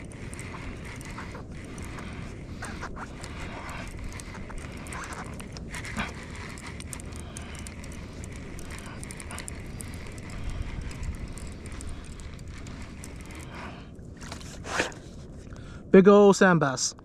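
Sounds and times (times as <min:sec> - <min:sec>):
light clicks and ticks: 0:00.0 - 0:14.4
wind: 0:00.0 - 0:17.0.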